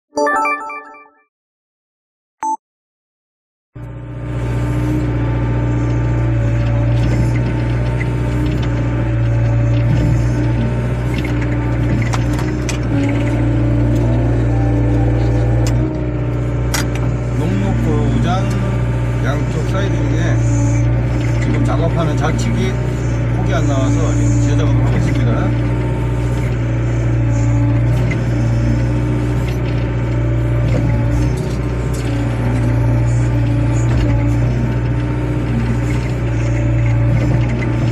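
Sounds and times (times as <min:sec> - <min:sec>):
diesel engine humming: 0:03.8 - 0:37.9
faint engine whine: 0:03.8 - 0:37.9.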